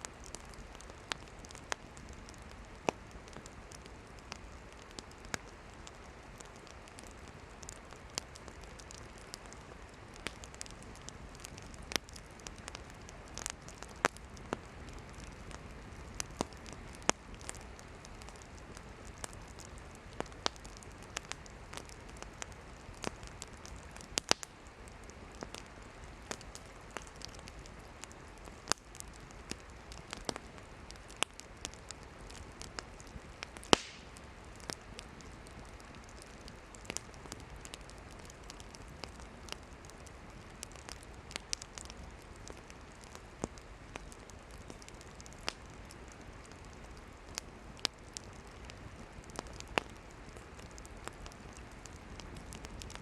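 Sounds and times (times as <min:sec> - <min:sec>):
campfire wood crackling: 0:00.0 - 0:53.0.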